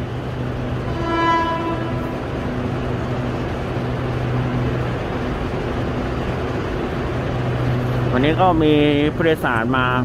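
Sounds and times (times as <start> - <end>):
electric train humming: 0.0 - 10.0
station noise: 0.0 - 10.0.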